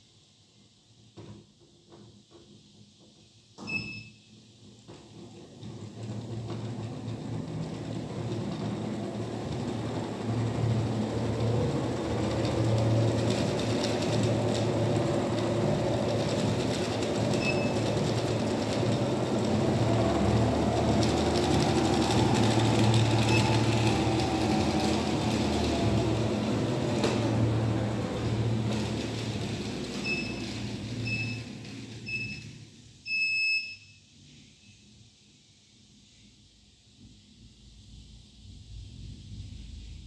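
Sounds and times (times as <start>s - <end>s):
treadmill motor hum: 1.1s - 33.8s.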